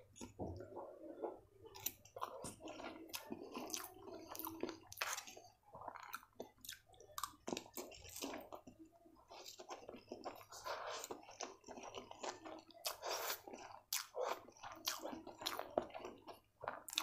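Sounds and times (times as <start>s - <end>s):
chewing noodles: 0.0s - 17.0s.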